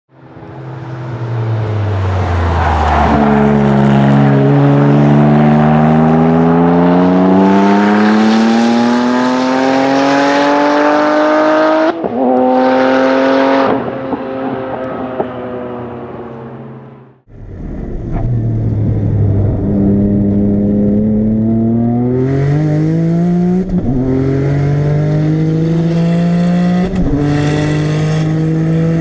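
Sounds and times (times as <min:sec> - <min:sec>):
car engine at full throttle: 0:00.2 - 0:29.0.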